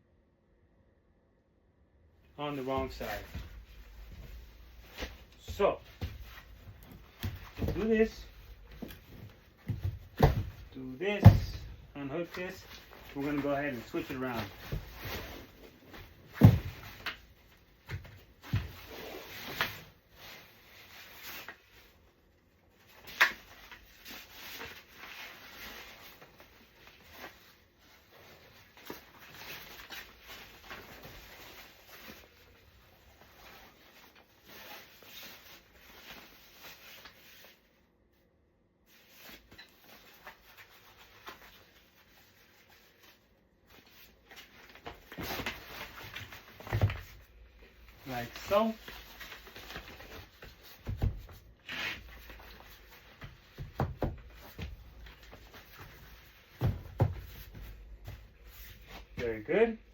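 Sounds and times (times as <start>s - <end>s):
rubbing and handling noise: 2.4s - 37.9s, 38.9s - 59.9s.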